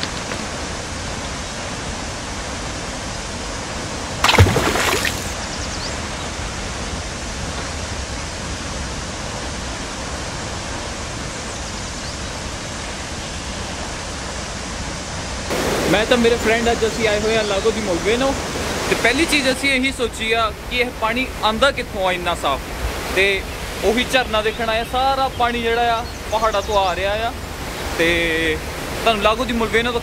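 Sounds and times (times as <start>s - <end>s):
mountain stream water rushing: 0.0s - 30.0s.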